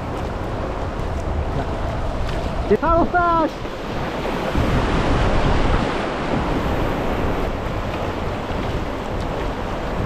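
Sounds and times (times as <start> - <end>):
whitewater rushing: 0.0 - 10.0
wind rumble on microphone: 0.0 - 10.0.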